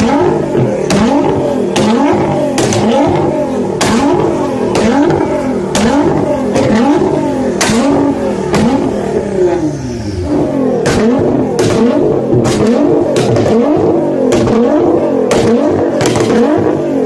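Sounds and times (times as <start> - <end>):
sharp exhaust cracks: 0.0 - 17.0
sports car engine revving: 0.0 - 17.0.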